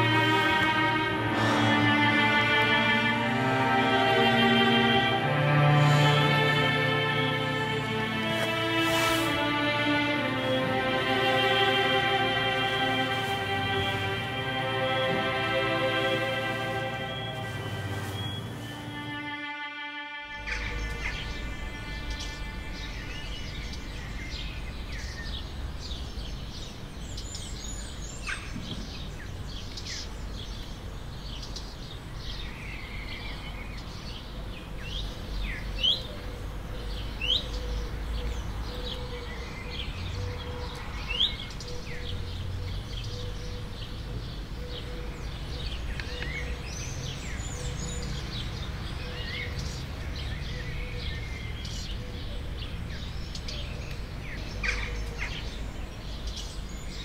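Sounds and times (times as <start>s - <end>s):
small birds chirping: 0.0s - 19.2s, 20.3s - 57.0s.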